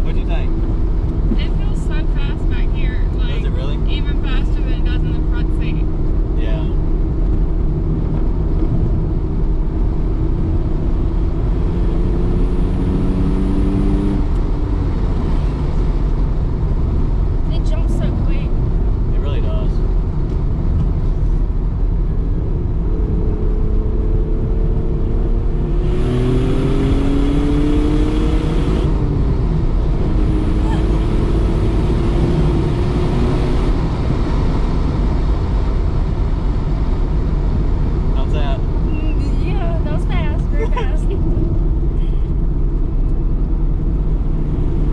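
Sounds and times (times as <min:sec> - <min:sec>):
car engine drone from inside: 0:00.0 - 0:44.9
road rumble: 0:00.0 - 0:44.9.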